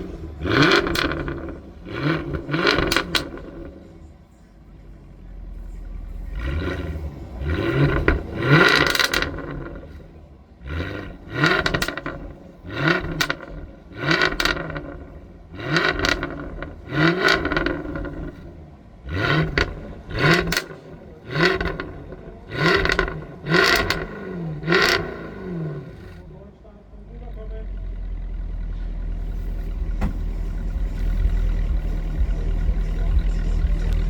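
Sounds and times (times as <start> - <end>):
car exhaust revving: 0.0 - 34.0.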